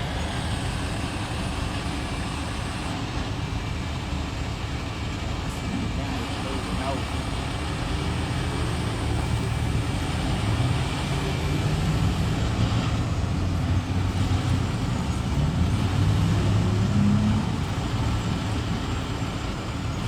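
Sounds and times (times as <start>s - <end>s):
heavy vehicle engine running: 0.0s - 20.0s
traffic noise: 0.0s - 20.0s.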